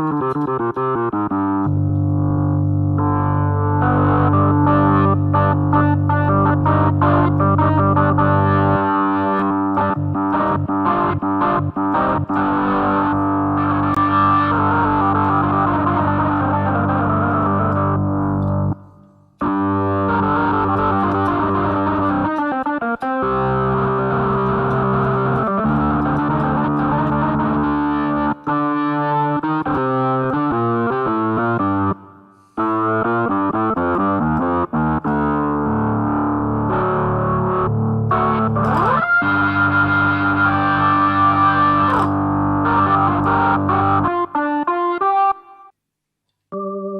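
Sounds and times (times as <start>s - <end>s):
electronic keyboard organ chords: 0.0s - 45.7s, 46.5s - 46.9s.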